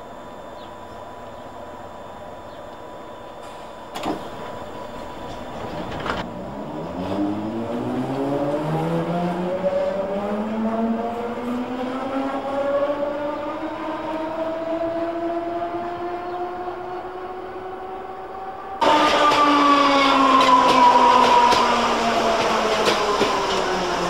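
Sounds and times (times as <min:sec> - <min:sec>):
electric train motors whining: 0:00.0 - 0:24.0.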